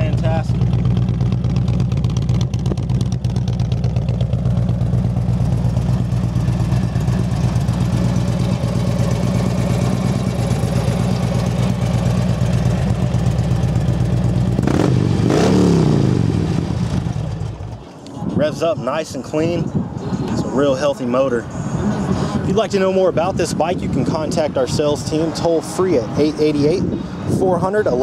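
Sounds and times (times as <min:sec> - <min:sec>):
motorcycle engine idling and revving: 0:00.0 - 0:28.0.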